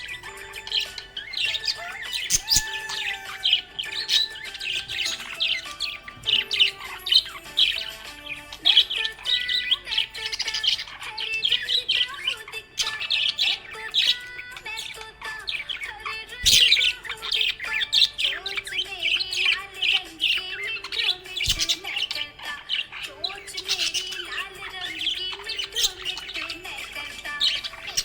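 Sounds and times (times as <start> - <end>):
budgerigar chirping: 0.0 - 28.0.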